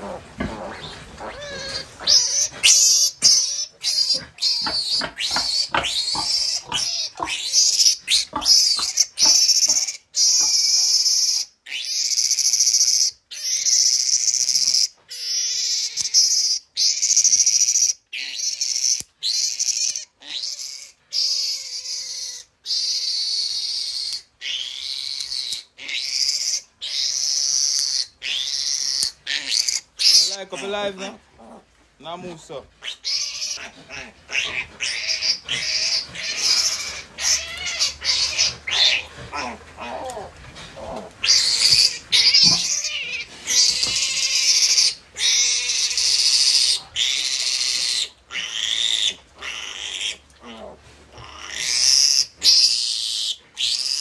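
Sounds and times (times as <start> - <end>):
piglet squealing: 0.0 - 31.6, 32.8 - 54.0.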